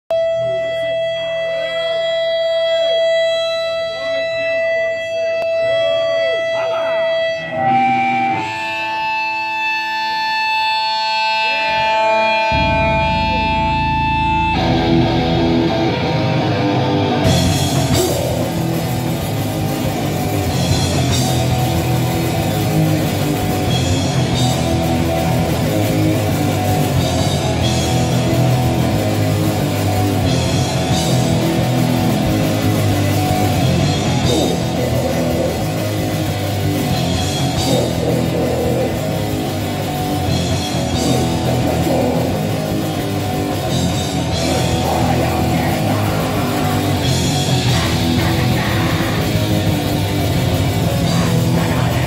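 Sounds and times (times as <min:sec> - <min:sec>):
punk band playing live: 0:00.1 - 0:52.0.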